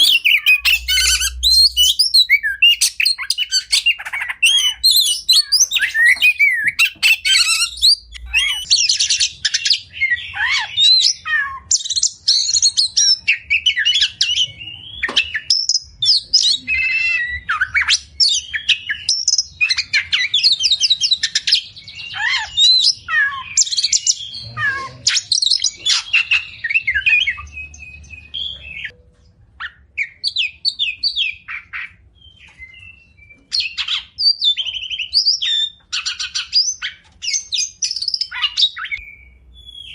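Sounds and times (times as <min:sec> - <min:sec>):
magpie-robin singing: 0:00.0 - 0:29.0, 0:29.6 - 0:39.9.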